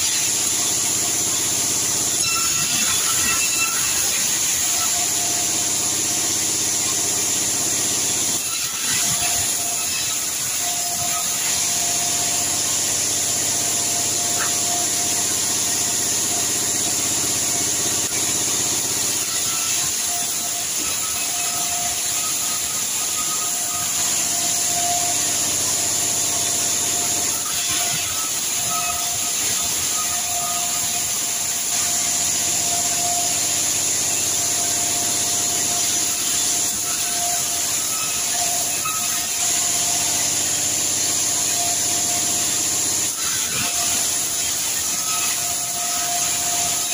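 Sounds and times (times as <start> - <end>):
band saw cutting timber: 0.0 - 46.9.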